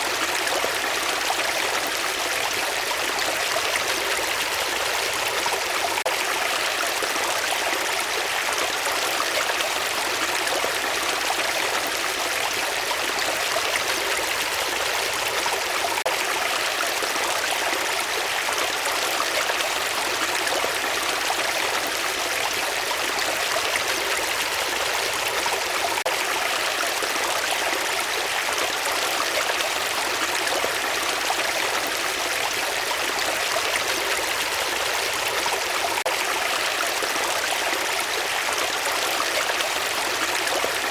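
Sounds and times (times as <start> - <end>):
stream running water: 0.0 - 40.9.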